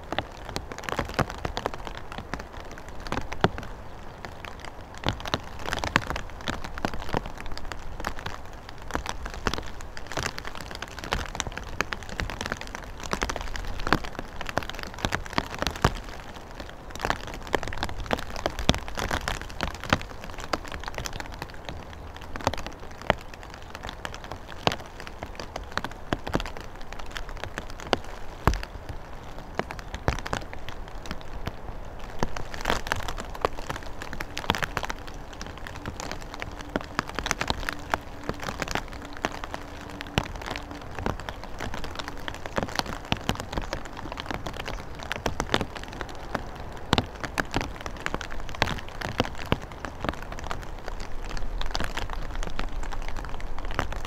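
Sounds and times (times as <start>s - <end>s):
rain falling: 0.0s - 54.0s
raindrops ticking on microphone: 0.0s - 54.0s.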